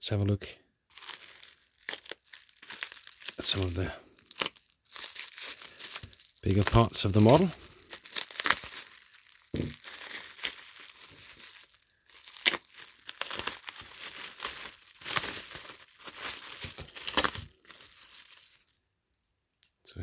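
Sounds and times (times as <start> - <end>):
packaging crinkling and rustling: 0.9 - 18.8.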